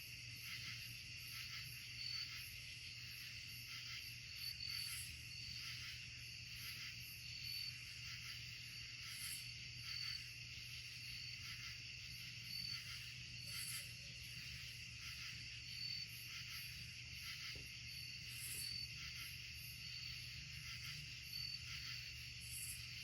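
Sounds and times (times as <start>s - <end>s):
insect trill: 0.0s - 23.0s.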